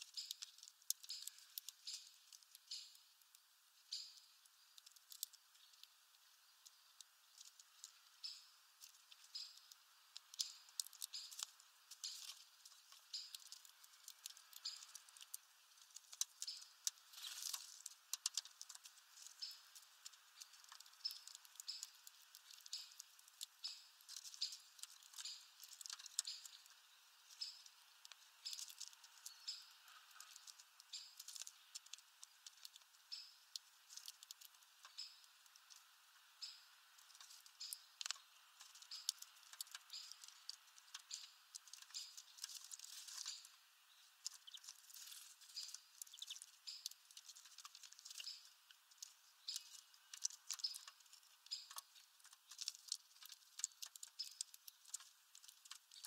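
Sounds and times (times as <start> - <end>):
birds cracking seed shells: 0.0 - 56.0.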